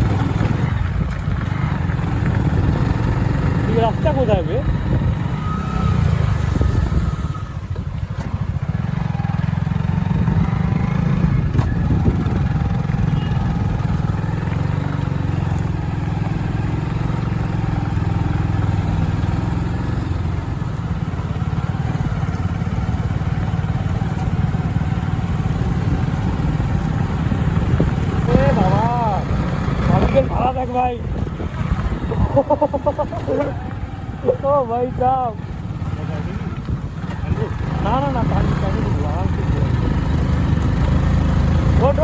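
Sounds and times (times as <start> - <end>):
motorcycle engine rumble: 0.0 - 42.0.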